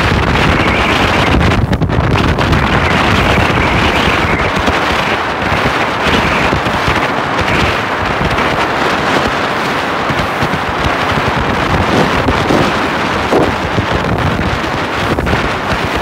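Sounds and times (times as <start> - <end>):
rushing water: 0.0 - 16.0
wind buffeting microphone: 0.0 - 16.0.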